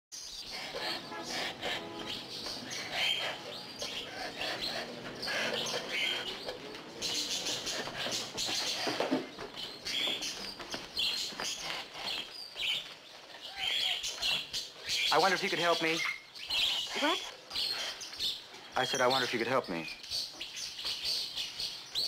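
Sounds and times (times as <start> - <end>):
songbirds chirping and twittering: 0.1 - 22.0.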